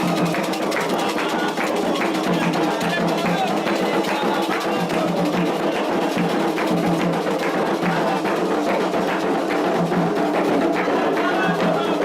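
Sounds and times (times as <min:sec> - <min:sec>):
clacking percussion: 0:00.0 - 0:12.0
hand drums fast rhythm: 0:00.0 - 0:12.0.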